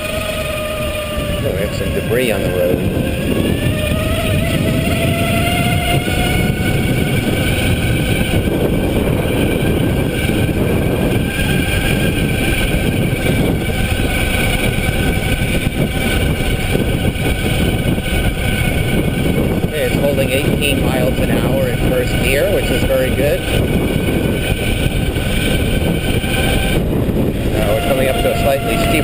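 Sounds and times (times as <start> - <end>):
electric bike motor whining: 0.0 - 29.0
heavy wind noise: 0.0 - 29.0.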